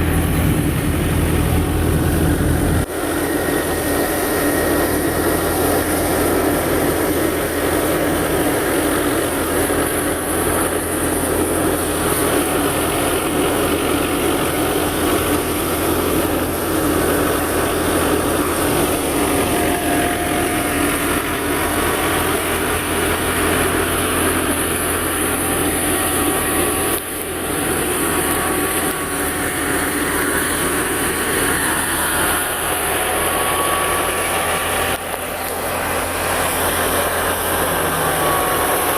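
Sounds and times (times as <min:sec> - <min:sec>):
threshing machinery running: 0:00.0 - 0:38.9
tractor engine: 0:00.0 - 0:38.9.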